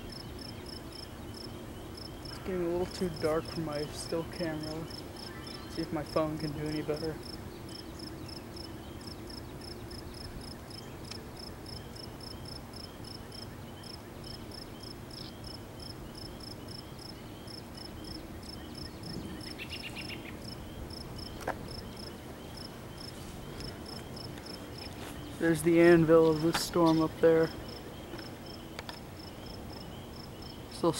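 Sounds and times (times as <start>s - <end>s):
insects chirping high: 0.0s - 30.9s
lower chirping insect: 0.0s - 30.9s.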